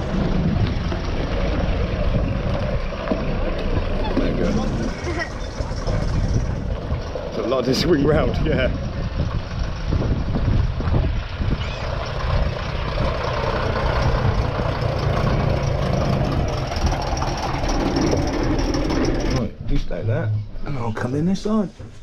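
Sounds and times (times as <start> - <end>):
bus diesel engine idling: 0.0 - 19.6.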